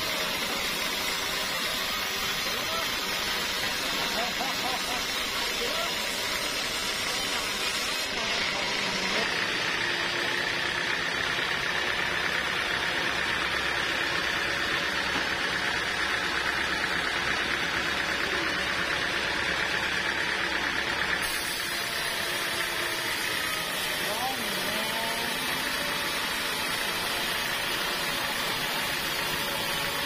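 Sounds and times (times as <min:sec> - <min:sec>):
band saw cutting wood: 0:00.0 - 0:30.0.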